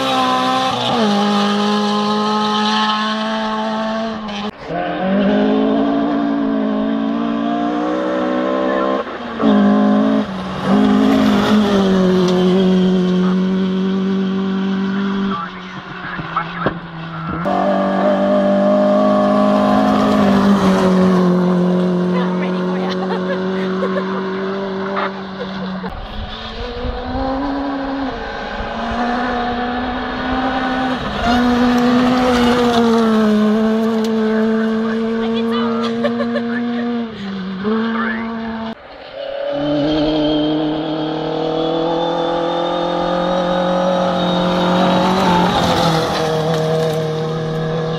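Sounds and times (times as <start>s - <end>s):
rally car engine at high revs: 0.0s - 47.9s.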